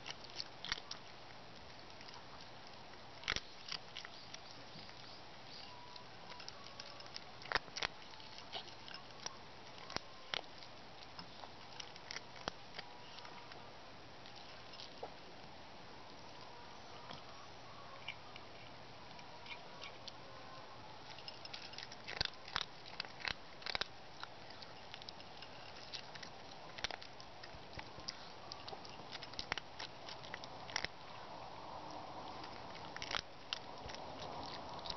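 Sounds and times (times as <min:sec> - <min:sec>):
cat chewing food: 0:00.0 - 0:34.9.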